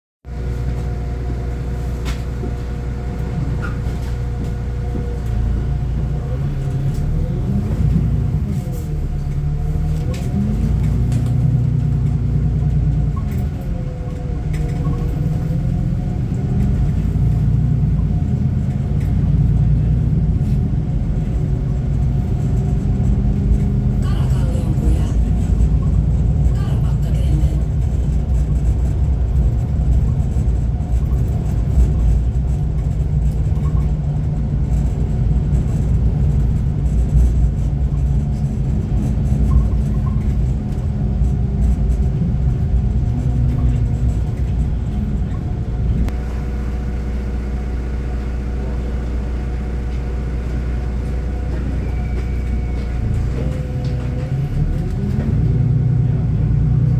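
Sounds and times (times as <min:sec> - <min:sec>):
diesel engine rumbling: 0:00.2 - 0:56.9.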